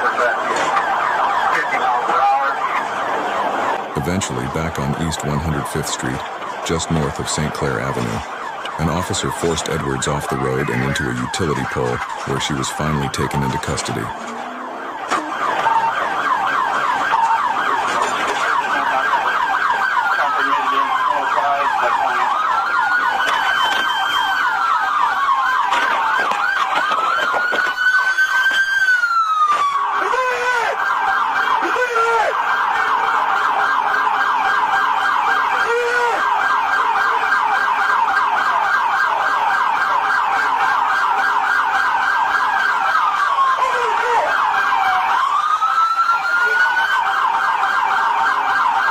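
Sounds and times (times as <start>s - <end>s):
police siren wail: 0.0s - 48.9s
police siren yelp: 0.0s - 48.9s.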